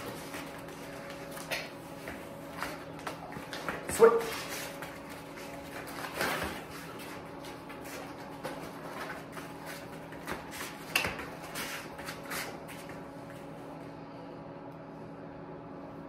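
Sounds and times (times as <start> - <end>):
person's footsteps on floor: 0.0 - 13.8
dog's paws on floor: 0.0 - 13.9
low room hum: 0.0 - 16.0.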